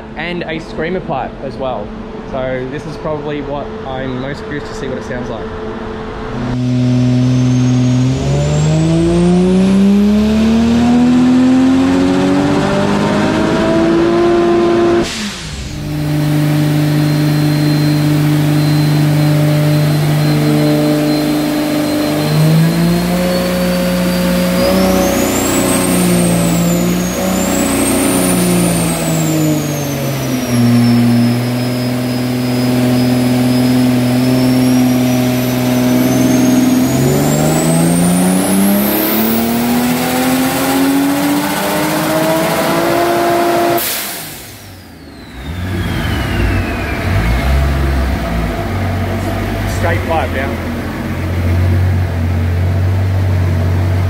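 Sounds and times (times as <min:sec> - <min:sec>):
high whine: 0:00.0 - 0:53.4
turbocharged car engine revving: 0:00.0 - 0:54.0.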